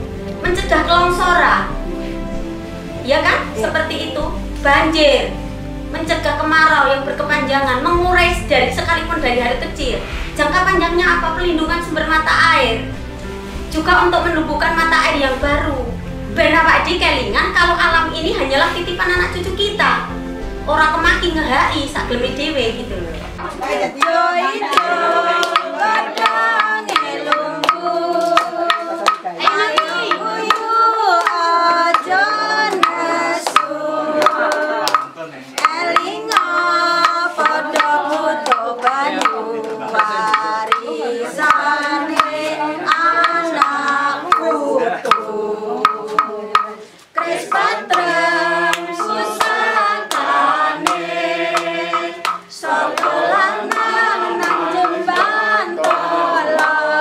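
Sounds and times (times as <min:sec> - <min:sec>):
group singing together: 0:00.0 - 0:57.0
steady percussive beat: 0:00.0 - 0:57.0.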